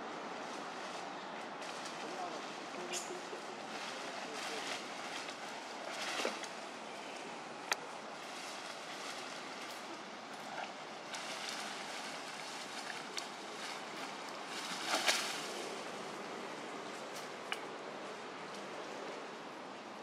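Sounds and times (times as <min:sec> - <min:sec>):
leaves and branches rustling: 0:00.0 - 0:20.0
steady outdoor hiss: 0:00.0 - 0:20.0.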